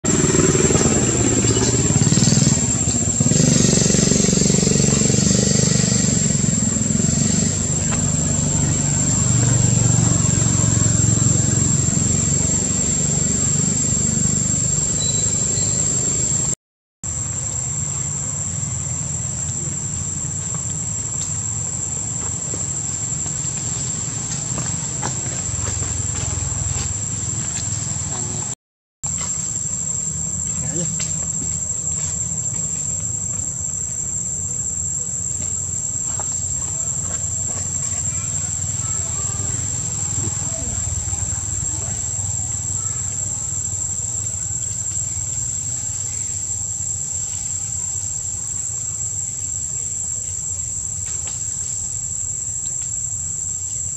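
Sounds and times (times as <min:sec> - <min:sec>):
low engine rumble: 0:00.0 - 0:53.8
high-pitched insect drone: 0:00.1 - 0:53.9.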